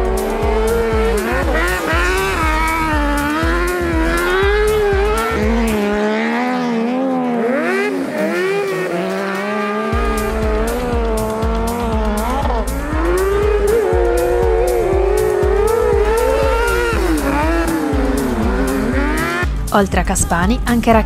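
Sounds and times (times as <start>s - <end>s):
music with bass beat: 0.0s - 6.2s, 7.7s - 21.0s
race car engine revving: 0.0s - 19.7s.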